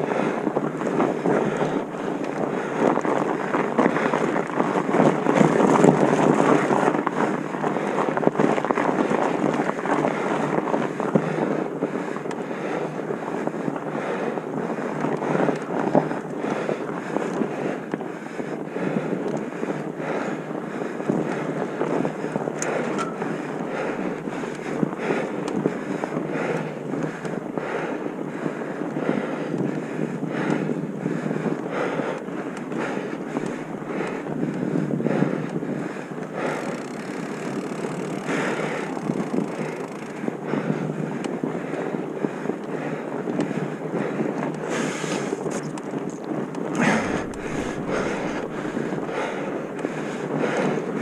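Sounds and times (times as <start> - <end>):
crackly rushing noise: 0.0 - 51.0
wind buffeting microphone: 0.0 - 51.0.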